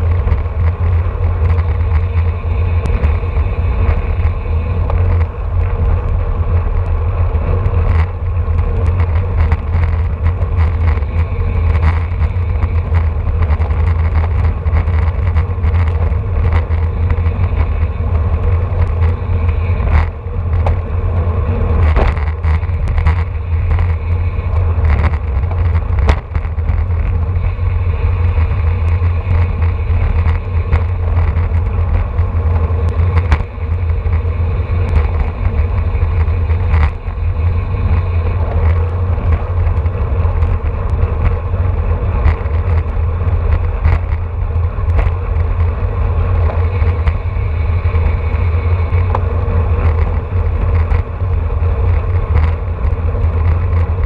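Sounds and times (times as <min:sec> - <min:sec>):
road and tyre noise: 0:00.0 - 0:54.0
wind rushing over microphone: 0:00.0 - 0:54.0.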